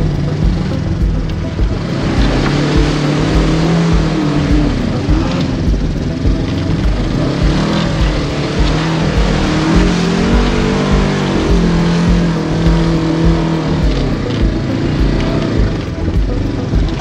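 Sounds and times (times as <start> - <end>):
engine running under load: 0.0 - 17.0
uneven low thumps: 0.0 - 17.0.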